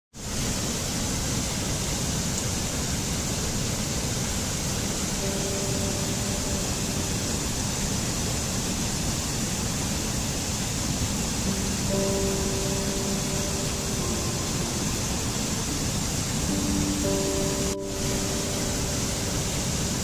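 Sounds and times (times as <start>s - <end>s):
stream rushing over boulders: 0.2s - 20.0s.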